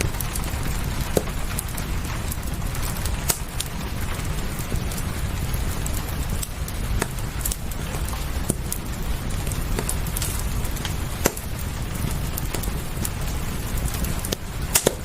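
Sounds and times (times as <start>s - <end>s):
low rumble: 0.0s - 14.7s
rain hissing: 0.0s - 15.0s
wood fire crackling and popping: 0.0s - 15.0s.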